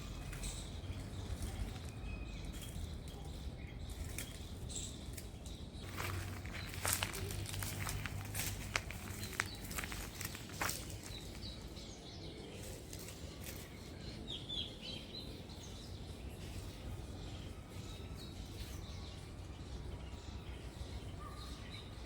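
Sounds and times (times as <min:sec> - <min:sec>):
outdoor background noise: 0:00.0 - 0:22.0
small birds chirping: 0:00.0 - 0:22.0.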